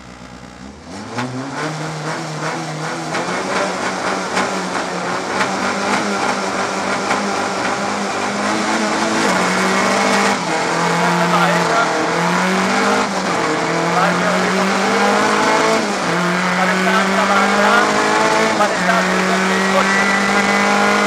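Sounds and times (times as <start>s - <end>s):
rally car engine revving high: 0.0s - 21.0s.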